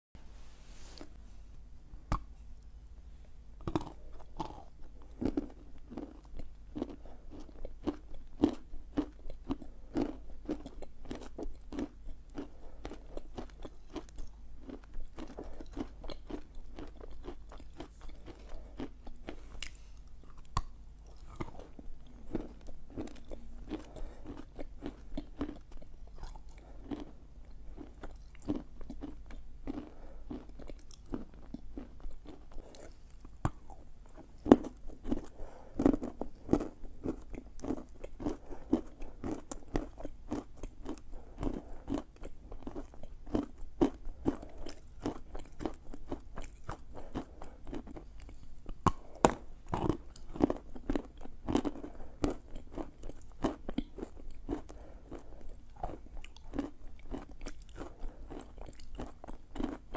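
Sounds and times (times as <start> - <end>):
chalk crunching while chewed: 3.7 - 59.9.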